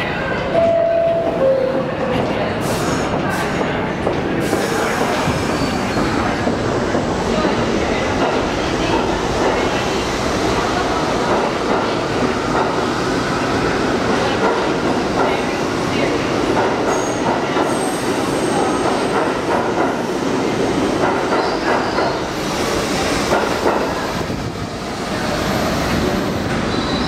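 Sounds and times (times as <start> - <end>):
subway train wheels clattering: 0.0 - 27.0.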